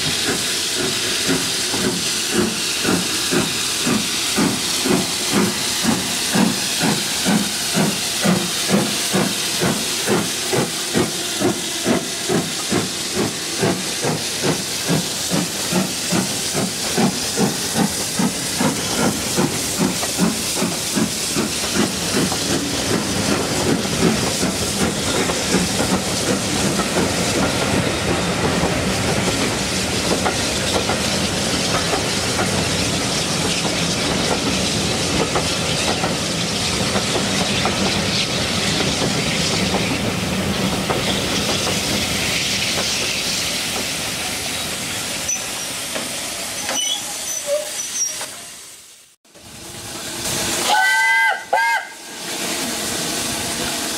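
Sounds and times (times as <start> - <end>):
steam locomotive exhaust chuffing: 0.0 - 48.7, 49.3 - 53.9
hiss of steam: 0.0 - 53.9.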